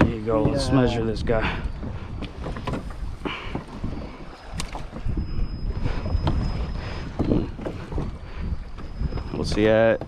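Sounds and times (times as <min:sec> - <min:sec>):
knocks and rustles on boat: 0:00.0 - 0:10.0
wind on microphone: 0:00.0 - 0:10.0
water sloshing around kayak: 0:00.1 - 0:10.0.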